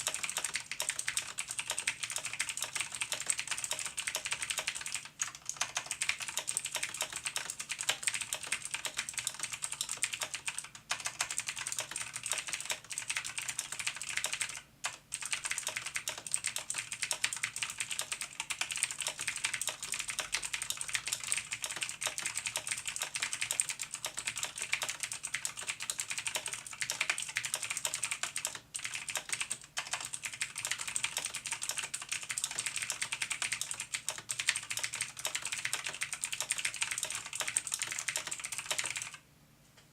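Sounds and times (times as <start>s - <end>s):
mechanical keyboard typing: 0.0s - 39.2s.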